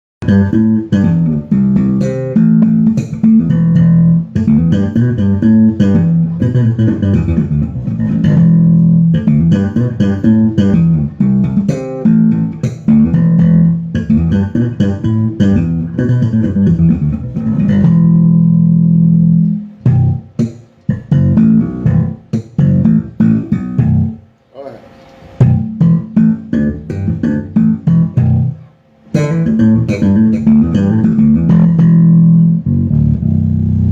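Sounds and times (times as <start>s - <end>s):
electric bass guitar notes: 0.2s - 24.3s, 25.4s - 33.9s.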